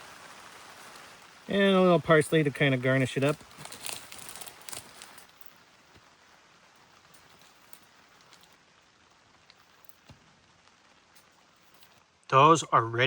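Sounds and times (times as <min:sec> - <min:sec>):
rain on tent fabric: 0:00.0 - 0:13.0.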